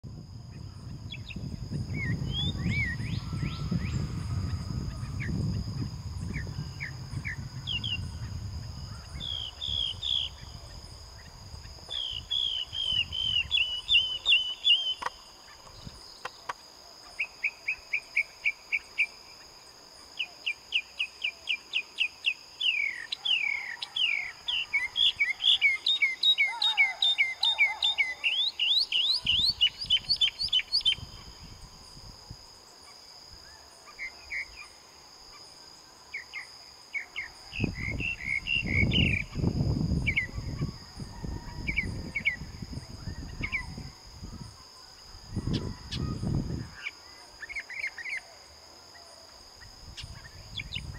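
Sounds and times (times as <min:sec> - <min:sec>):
high insect drone: 0:00.1 - 0:50.9.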